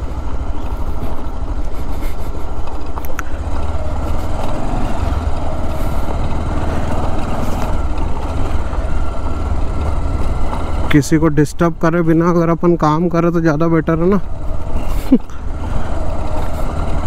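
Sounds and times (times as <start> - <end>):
motorcycle engine rumbling: 0.0 - 17.0.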